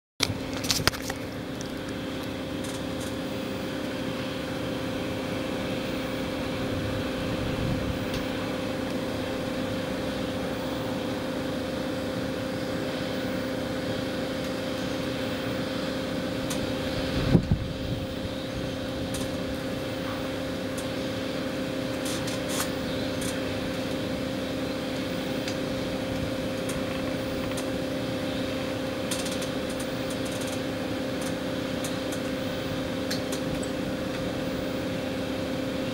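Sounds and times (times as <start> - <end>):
mechanical hum: 0.2 - 35.9.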